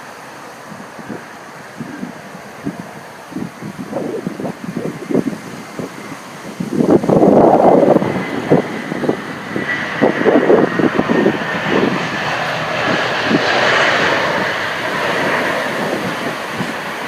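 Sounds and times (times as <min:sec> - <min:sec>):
faint high whine: 0:00.0 - 0:17.0
jet engine noise: 0:00.0 - 0:17.0
wind buffeting microphone: 0:00.6 - 0:17.0.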